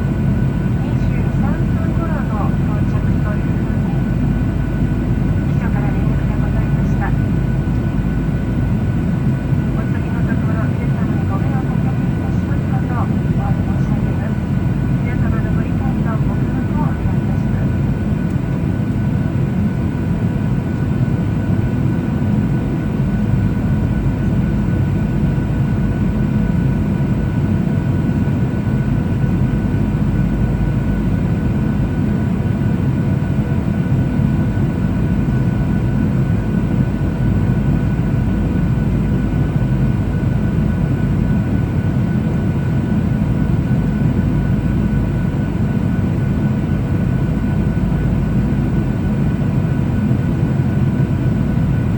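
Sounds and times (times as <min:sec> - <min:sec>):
airliner cabin engine roar: 0:00.0 - 0:51.9.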